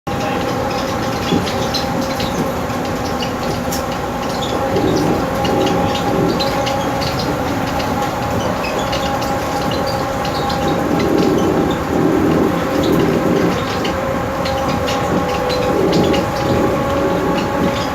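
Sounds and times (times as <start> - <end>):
car rumbling: 0.2 - 17.9.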